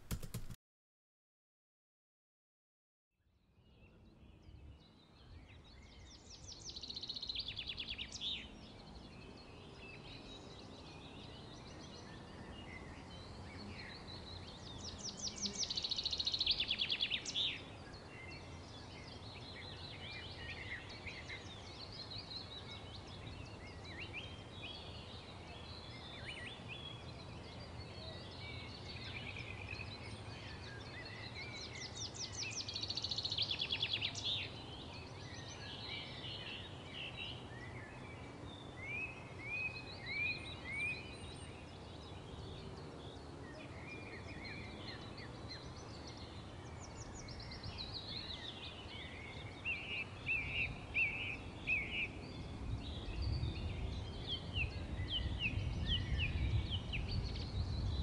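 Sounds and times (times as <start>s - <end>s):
songbirds singing: 3.3s - 58.0s.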